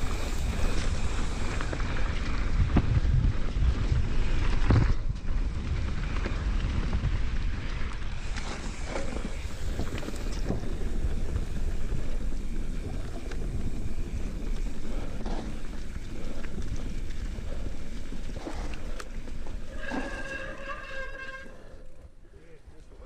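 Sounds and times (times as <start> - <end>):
wind buffeting microphone: 0.0 - 19.7
bike rumble on dirt trail: 0.0 - 23.0.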